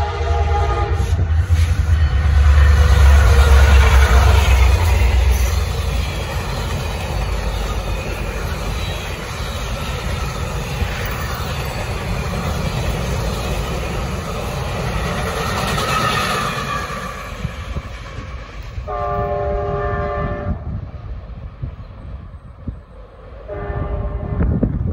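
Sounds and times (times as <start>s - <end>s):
diesel locomotive rumble: 0.0s - 24.9s
train wheels on rails: 0.0s - 24.9s.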